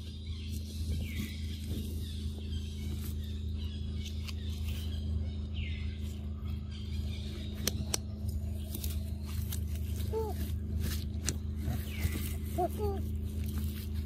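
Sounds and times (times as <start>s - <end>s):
faint bird calls: 0.0s - 14.0s
steady low hum: 0.0s - 14.0s.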